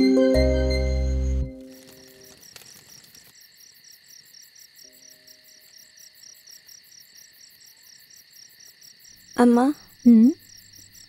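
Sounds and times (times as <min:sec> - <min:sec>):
crickets chirping: 0:00.3 - 0:11.0.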